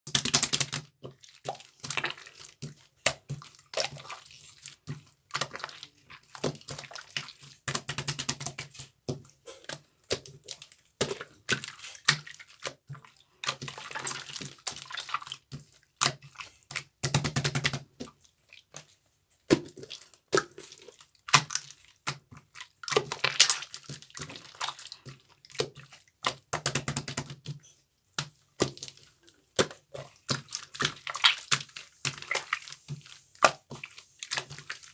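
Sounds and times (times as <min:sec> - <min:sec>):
slime squelching by hand: 0:00.1 - 0:34.9.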